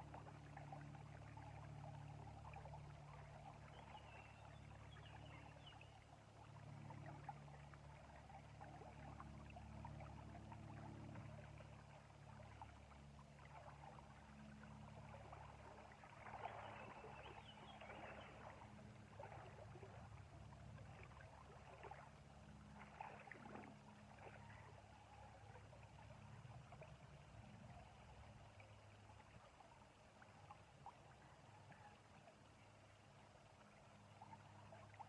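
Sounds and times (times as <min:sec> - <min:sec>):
low steady hum: 0:00.0 - 0:35.0
river water trickling and splashing: 0:00.0 - 0:35.0.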